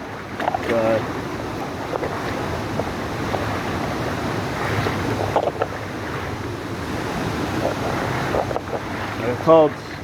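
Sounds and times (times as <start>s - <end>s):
creek water rushing over rocks: 0.0s - 10.0s
wind on microphone: 0.0s - 10.0s.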